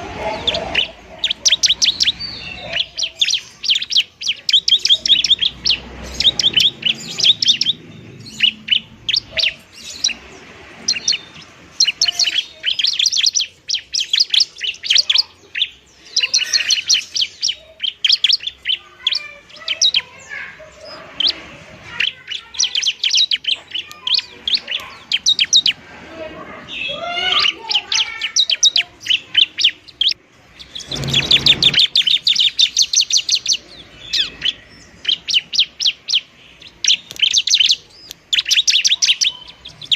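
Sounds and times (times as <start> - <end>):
bird chattering calls: 0.0 - 25.9, 26.6 - 39.9.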